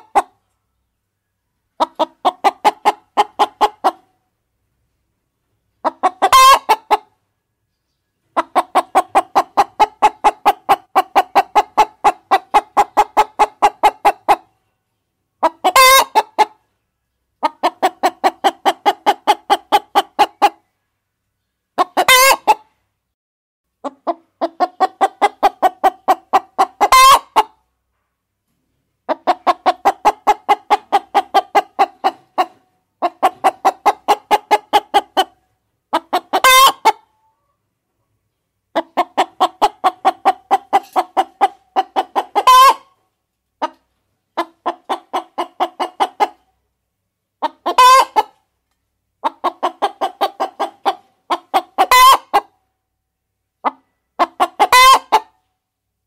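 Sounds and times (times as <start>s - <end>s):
hens clucking: 0.0s - 0.6s, 1.7s - 4.2s, 5.5s - 7.2s, 8.2s - 14.6s, 15.4s - 16.7s, 17.3s - 20.7s, 21.7s - 22.8s, 23.8s - 27.7s, 28.9s - 38.0s, 38.7s - 46.7s, 47.3s - 52.7s, 53.6s - 55.5s.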